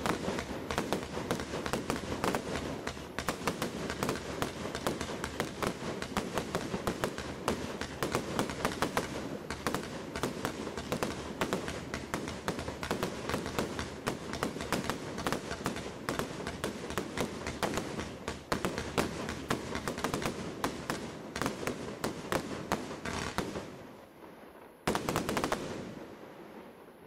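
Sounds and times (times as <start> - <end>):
fireworks firing sharp bangs: 0.0 - 26.7.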